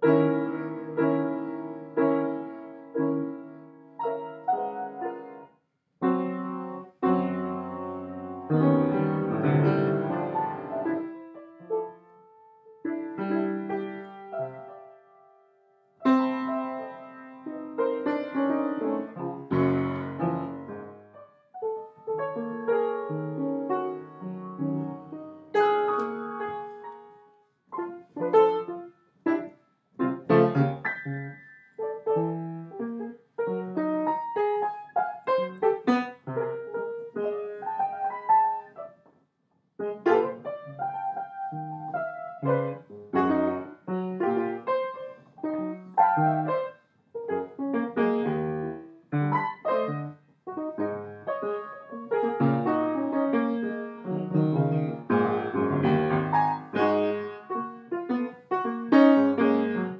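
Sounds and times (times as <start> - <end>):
piano playing: 0.0 - 39.0, 39.8 - 59.9.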